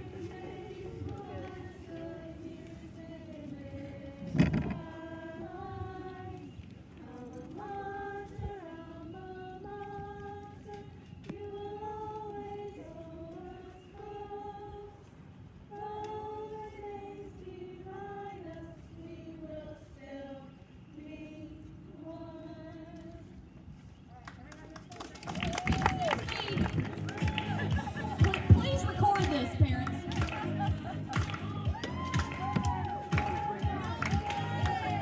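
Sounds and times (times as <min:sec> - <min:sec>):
voices singing together: 0:00.0 - 0:23.6, 0:26.8 - 0:35.0.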